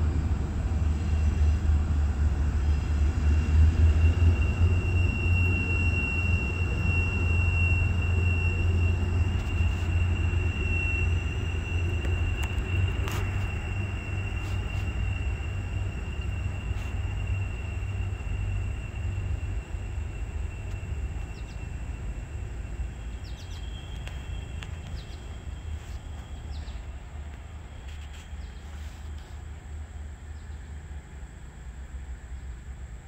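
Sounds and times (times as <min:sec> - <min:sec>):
diesel locomotive engine rumbling: 0:00.0 - 0:33.0
high-pitched squeal: 0:00.4 - 0:29.3.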